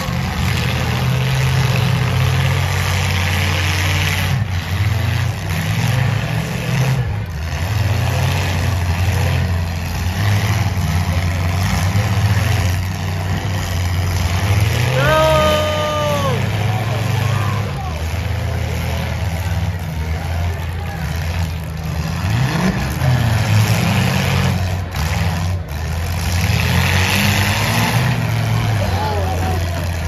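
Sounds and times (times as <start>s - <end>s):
car engine revving roughly: 0.0s - 30.0s.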